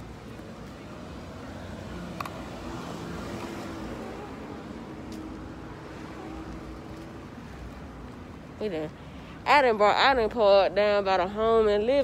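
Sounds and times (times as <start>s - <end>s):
traffic hum: 0.0s - 12.0s.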